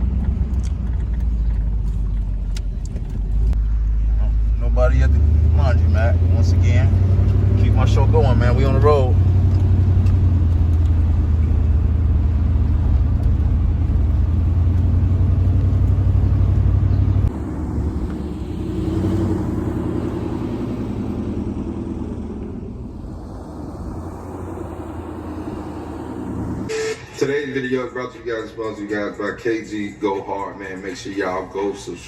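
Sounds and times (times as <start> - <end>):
car engine and road drone: 0.0 - 28.8
quieter low vehicle noise: 0.0 - 32.0.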